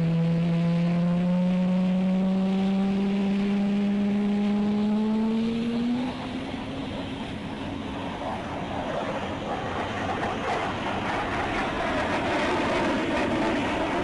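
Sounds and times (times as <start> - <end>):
jet aircraft engine: 0.0 - 14.0.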